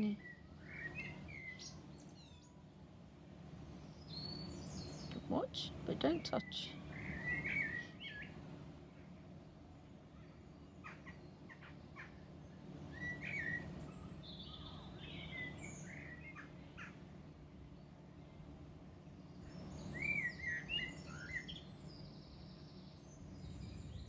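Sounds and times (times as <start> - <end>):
birds chirping: 0.0 - 2.7, 3.6 - 24.0
low background hum: 0.0 - 24.0.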